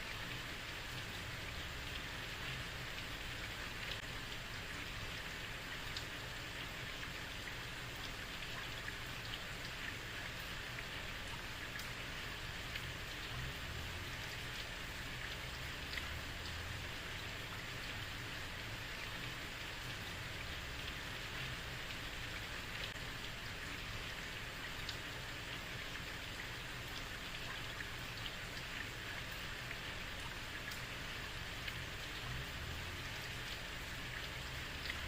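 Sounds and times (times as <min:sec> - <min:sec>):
heavy rain on a street: 0:00.0 - 0:35.0
raindrop ticks: 0:00.1 - 0:18.1, 0:18.9 - 0:35.0.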